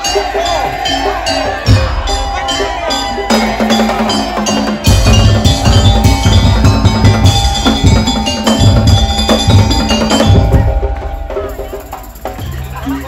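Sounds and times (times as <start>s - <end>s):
bell-like tuned percussion: 0.0s - 13.0s
heavy drum beats: 0.0s - 13.0s
percussion ensemble playing: 0.0s - 13.0s.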